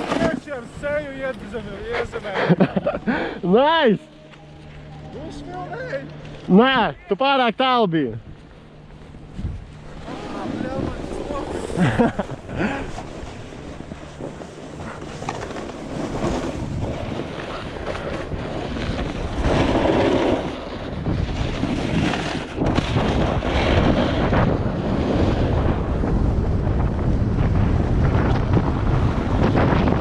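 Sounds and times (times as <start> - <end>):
wind rushing over microphone: 0.0 - 3.2, 9.2 - 30.0
snowboard scraping over snow: 0.0 - 4.0, 9.3 - 30.0.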